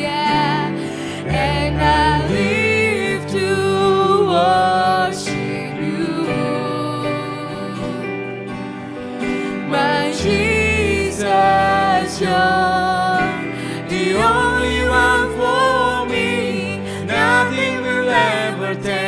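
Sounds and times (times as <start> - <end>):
keyboard accompaniment: 0.0 - 19.0
person singing with vibrato: 0.0 - 19.0.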